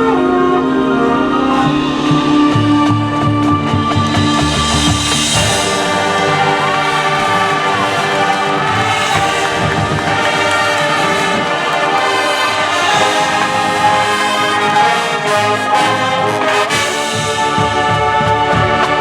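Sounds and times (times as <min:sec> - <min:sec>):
brass sustaining loud chords: 0:00.0 - 0:19.0
marching band drums: 0:01.5 - 0:19.0.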